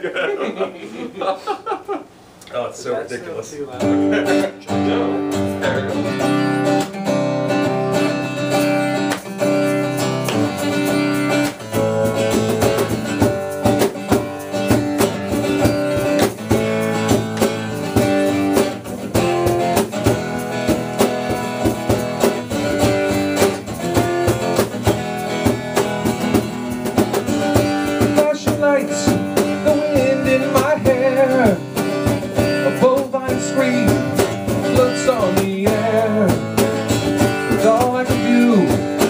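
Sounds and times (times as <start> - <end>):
guitar chords strummed: 3.8 - 39.0.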